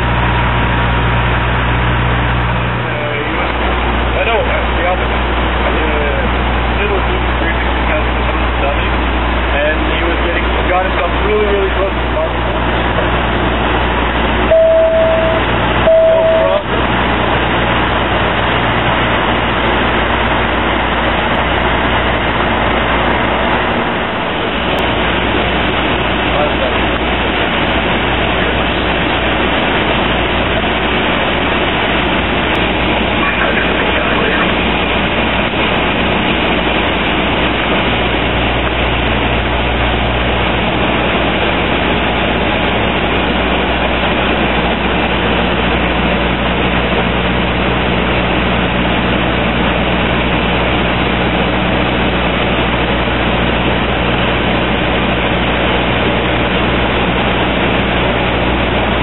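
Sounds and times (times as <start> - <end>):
turboprop engines humming: 0.0 - 59.0.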